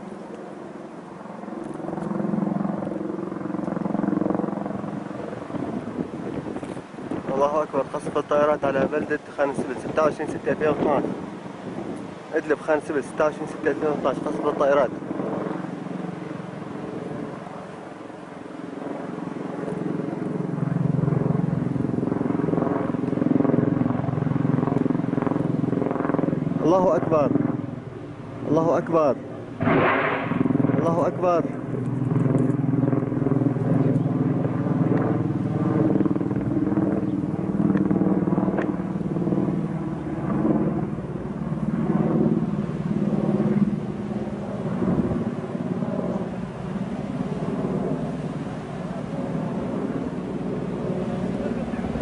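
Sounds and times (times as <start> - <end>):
helicopter flying overhead: 0.0 - 52.0
jet engine drone: 0.0 - 52.0.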